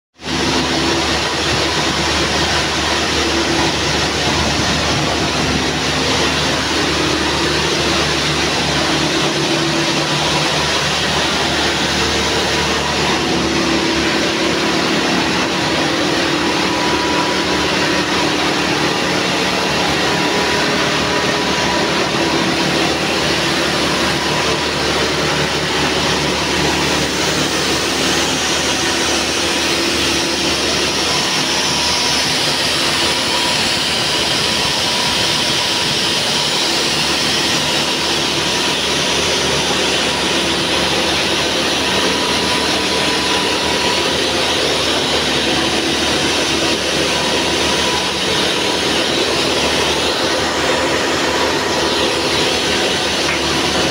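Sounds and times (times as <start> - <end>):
machines running: 0.2 - 53.9.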